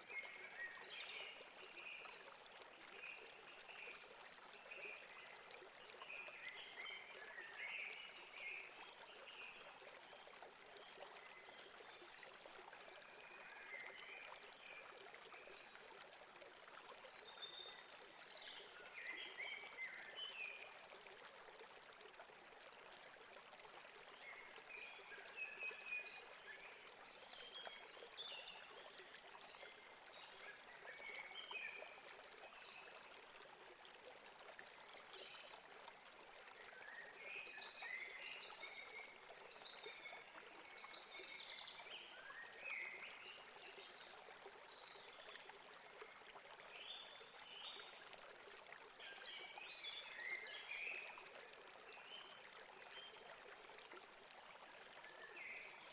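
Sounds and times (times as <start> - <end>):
river water running: 0.0 - 55.9.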